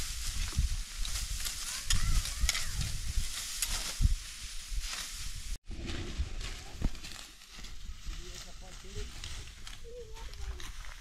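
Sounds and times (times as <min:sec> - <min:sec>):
dry wheat stalks rustling and snapping: 0:00.0 - 0:11.0.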